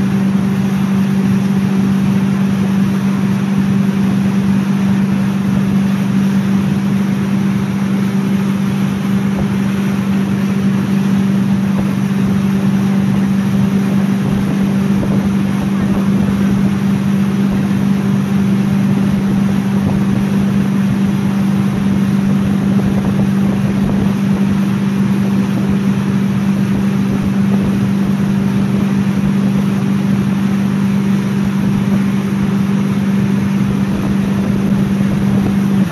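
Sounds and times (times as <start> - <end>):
boat engine running: 0.0 - 35.9
water rushing in wake: 0.0 - 35.9.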